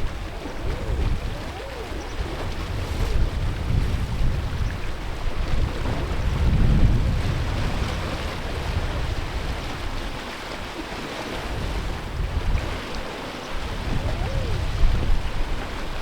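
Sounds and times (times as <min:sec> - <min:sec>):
sea surf washing on shore: 0:00.0 - 0:16.0
wind buffeting microphone: 0:00.0 - 0:16.0.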